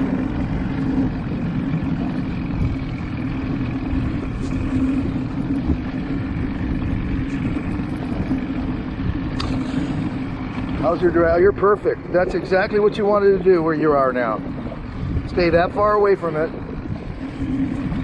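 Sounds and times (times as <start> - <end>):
boat motor humming: 0.0 - 18.0
water noise: 0.0 - 18.0.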